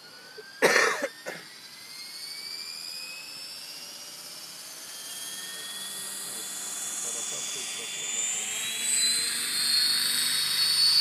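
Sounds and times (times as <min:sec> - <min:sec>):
model helicopter whining: 0:00.0 - 0:11.0.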